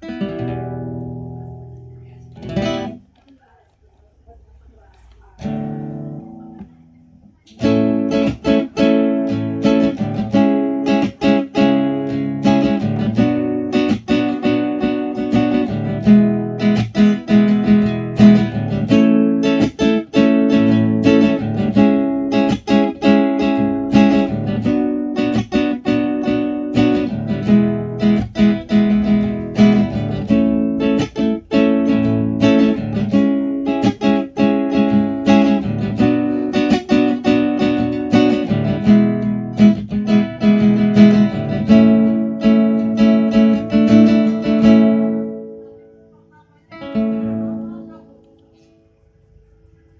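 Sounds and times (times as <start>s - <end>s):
classical guitar strumming and plucking: 0.0s - 3.1s, 5.2s - 48.6s.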